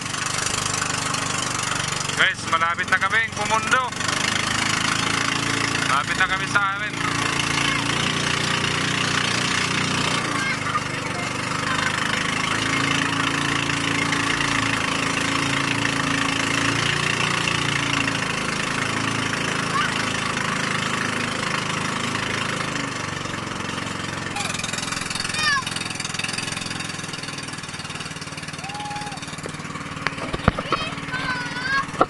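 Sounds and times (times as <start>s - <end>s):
boat engine running: 0.0s - 32.0s
water rushing: 0.0s - 32.0s
wind: 0.0s - 32.0s.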